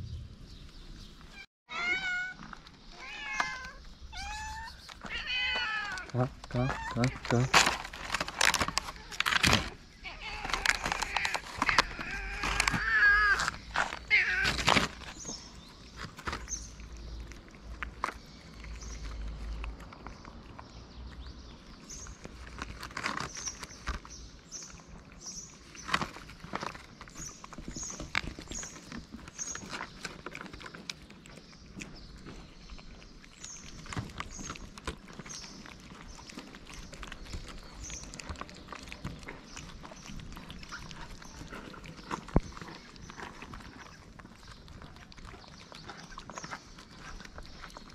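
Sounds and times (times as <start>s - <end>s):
cat chewing and lapping: 1.9s - 47.9s.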